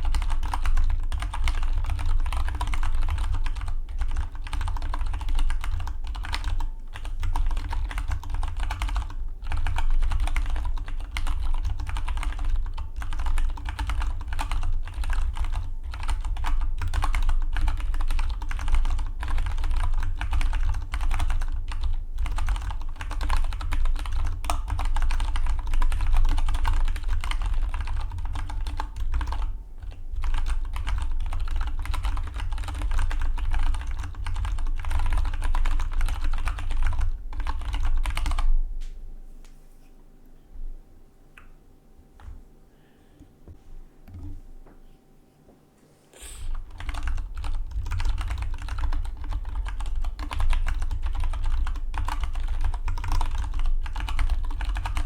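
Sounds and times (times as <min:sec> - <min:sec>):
mechanical keyboard typing: 0:00.0 - 0:38.5, 0:46.5 - 0:55.0
steady low hum: 0:00.0 - 0:55.0.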